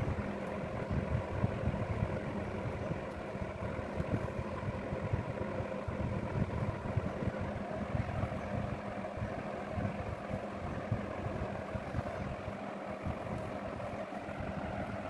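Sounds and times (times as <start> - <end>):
faint even hum: 0.0 - 15.0
machine running low rumble: 0.0 - 15.0.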